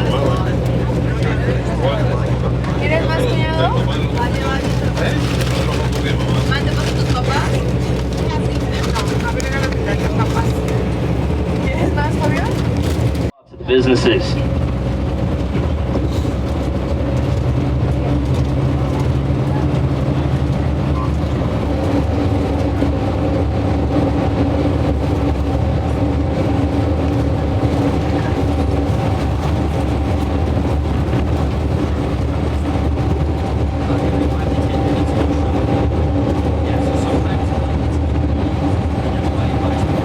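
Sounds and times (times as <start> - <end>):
bus engine drone: 0.0 - 40.0
road noise: 0.0 - 40.0.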